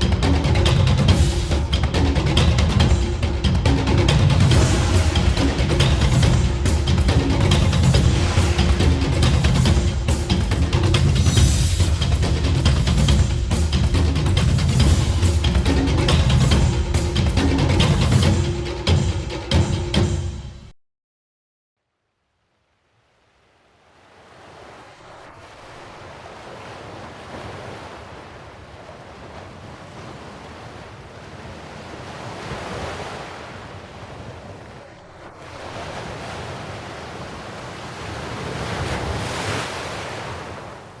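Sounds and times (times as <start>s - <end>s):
waves washing in: 0.0s - 20.4s, 22.9s - 41.0s
wind: 0.0s - 20.7s, 21.8s - 41.0s.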